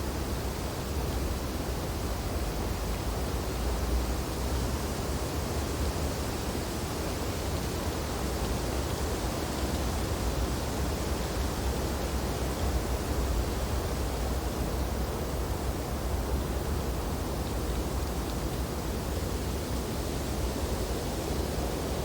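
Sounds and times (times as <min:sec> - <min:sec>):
wind through tree branches: 0:00.0 - 0:22.0.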